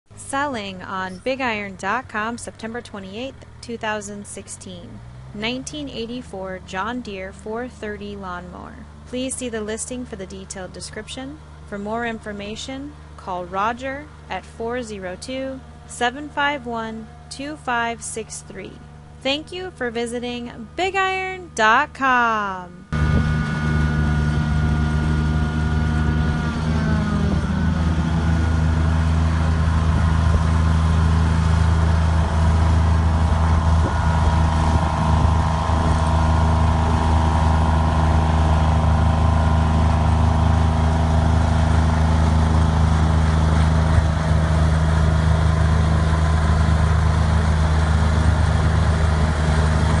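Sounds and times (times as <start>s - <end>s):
diesel tractor engine running: 0.1s - 50.0s.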